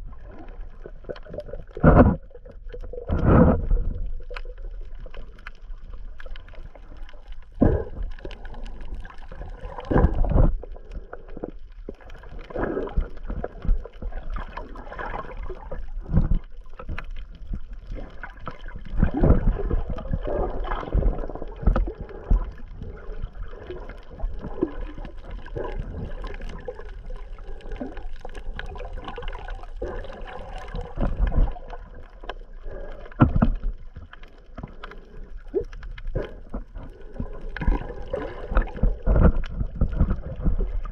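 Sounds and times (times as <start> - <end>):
muffled underwater sloshing: 0.0 - 40.9.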